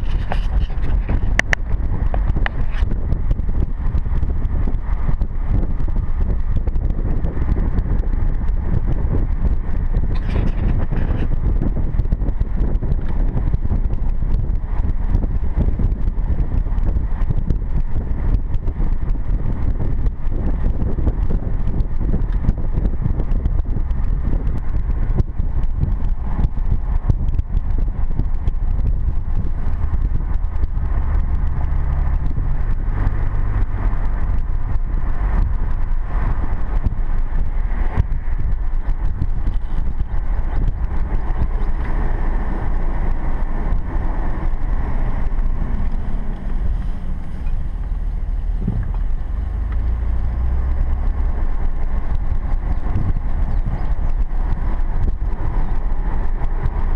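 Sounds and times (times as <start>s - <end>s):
engine and tyre rumble: 0.0s - 56.9s.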